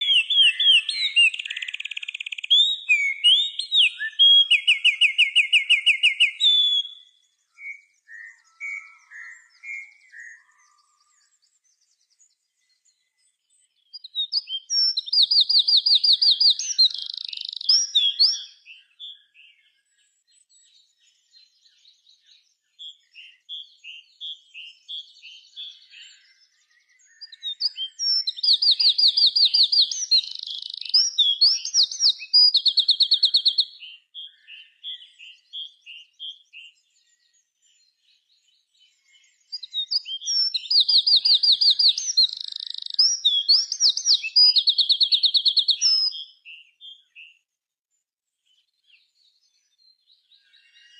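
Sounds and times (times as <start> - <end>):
songbird trilling and whistling: 0.0 - 47.4
soft bird chirps: 0.0 - 50.9.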